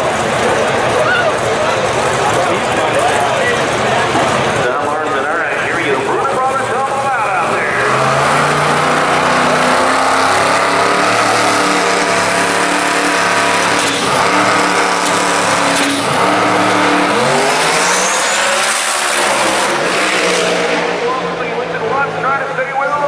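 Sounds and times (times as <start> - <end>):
drag car engine revving: 0.0 - 23.0.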